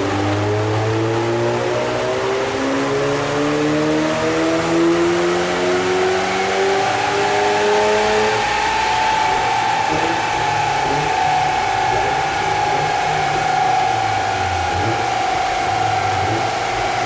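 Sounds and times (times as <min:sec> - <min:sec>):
car engine revving on rolling road: 0:00.0 - 0:17.0.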